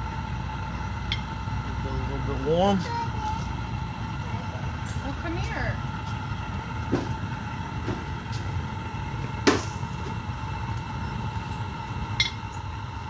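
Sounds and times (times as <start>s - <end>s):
furnace rumble with whine: 0.0s - 13.0s.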